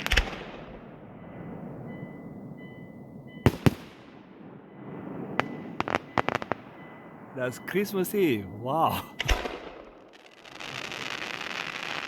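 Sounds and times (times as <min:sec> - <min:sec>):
fireworks bangs: 0:00.0 - 0:01.8, 0:03.4 - 0:12.0
fireworks rumble: 0:00.0 - 0:12.0.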